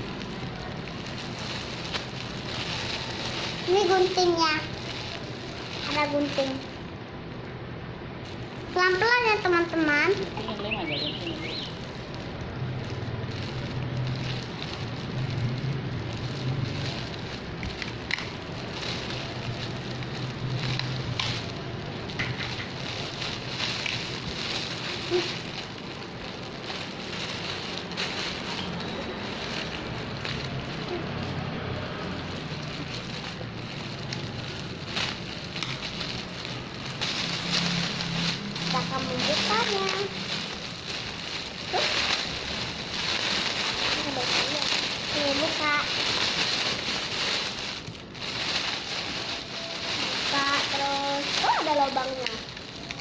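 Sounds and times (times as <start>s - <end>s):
packaging crinkling and rustling: 0.0s - 53.0s.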